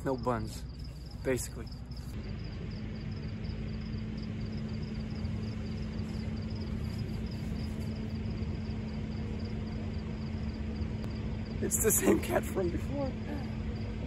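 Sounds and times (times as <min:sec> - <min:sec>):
cricket chirping: 0:00.0 - 0:14.0
road traffic rumble: 0:00.0 - 0:14.0.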